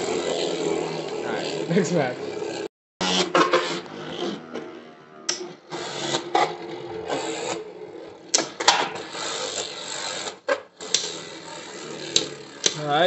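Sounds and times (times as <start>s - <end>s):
spinning tops whirring: 0.0s - 13.0s.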